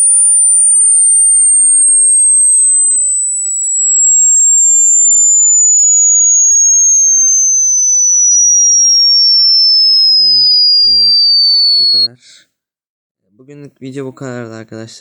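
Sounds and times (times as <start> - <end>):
high-pitched tone sweeping down: 0.0 - 12.1.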